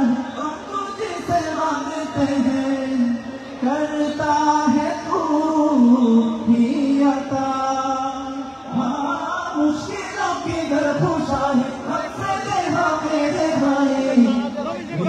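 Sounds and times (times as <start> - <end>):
men singing in chorus: 0.0 - 15.0.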